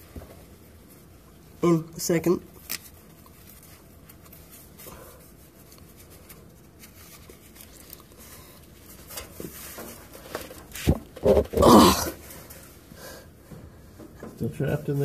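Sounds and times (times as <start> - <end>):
faint rustling and scraping: 2.8 - 15.0.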